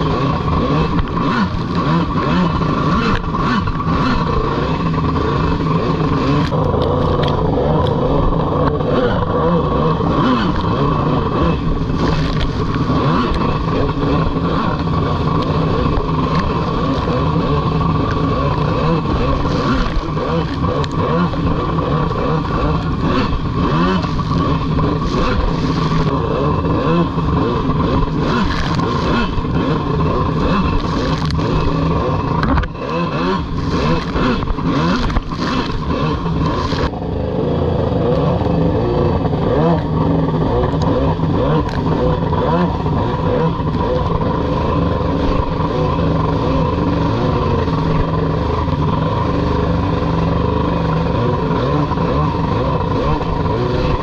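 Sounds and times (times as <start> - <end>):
jet ski engine revving: 0.0 - 54.0.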